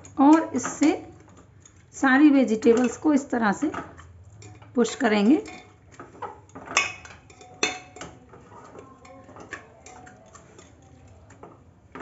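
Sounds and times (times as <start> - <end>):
potato masher clanking on pot: 0.0 - 12.0.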